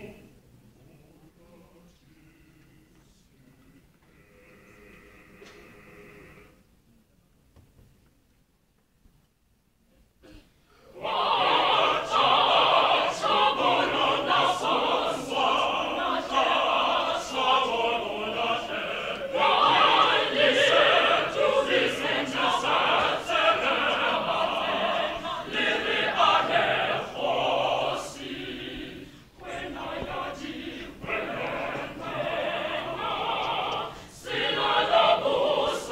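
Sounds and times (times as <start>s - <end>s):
mixed choir singing: 0.0s - 0.3s, 0.9s - 6.6s, 10.9s - 35.9s.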